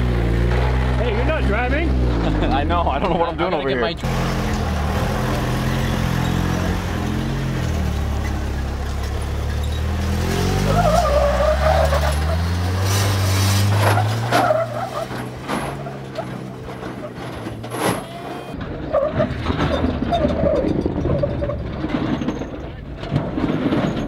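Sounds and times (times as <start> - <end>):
truck engine revving: 0.0 - 22.2
tires squealing on rock: 0.0 - 24.0.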